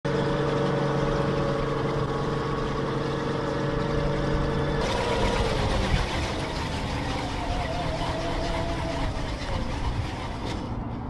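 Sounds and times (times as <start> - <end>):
tracked vehicle engine droning: 0.0 - 11.0.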